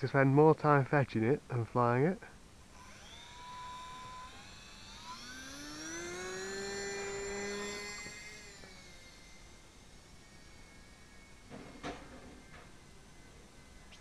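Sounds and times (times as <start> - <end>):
small electric motor and propeller whining: 2.5 - 14.0.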